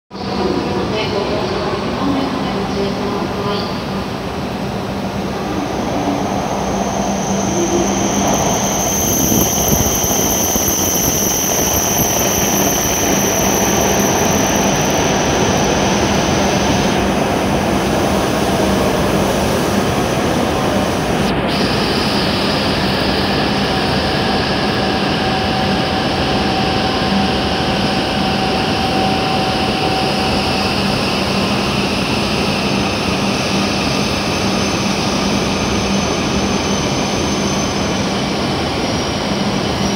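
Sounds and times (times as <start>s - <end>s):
high whine: 3.8s - 39.9s
train wheels rushing: 5.0s - 39.9s.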